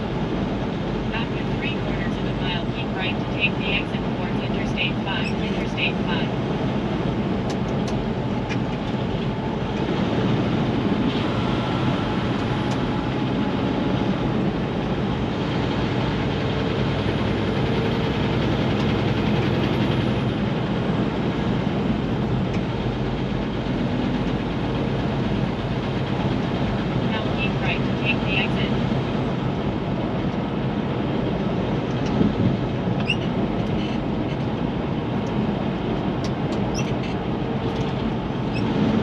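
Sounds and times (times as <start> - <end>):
engine drone: 0.0 - 39.0
wind noise: 0.0 - 39.0.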